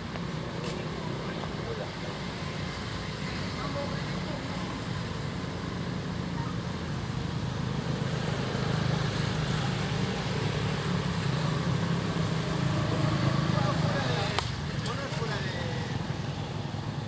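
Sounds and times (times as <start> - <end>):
motor traffic engine hum: 0.0 - 17.0.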